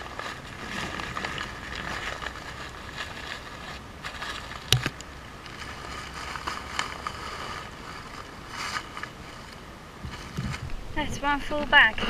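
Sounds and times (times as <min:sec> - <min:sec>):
plastic bag rustling: 0:00.0 - 0:10.9
brook water rushing: 0:00.0 - 0:12.0.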